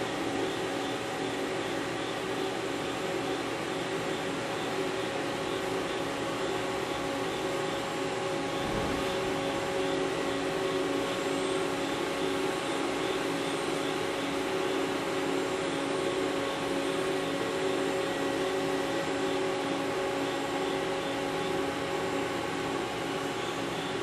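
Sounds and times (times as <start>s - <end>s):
lathe running with whine: 0.0s - 24.0s.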